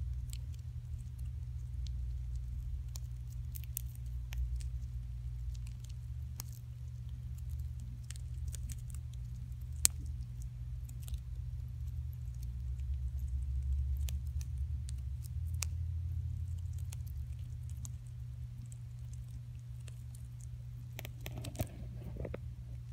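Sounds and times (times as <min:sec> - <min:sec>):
hamster nibbling seed: 0:00.0 - 0:22.9
steady low hum: 0:00.0 - 0:22.9.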